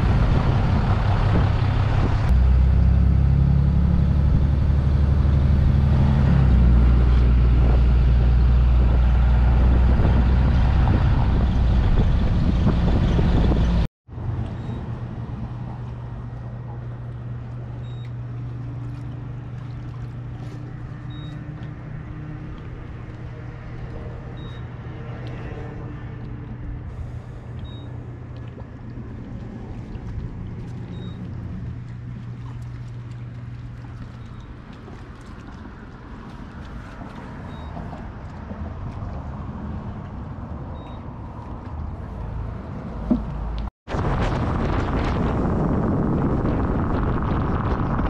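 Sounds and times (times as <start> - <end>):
motor engine humming: 0.0 - 43.7.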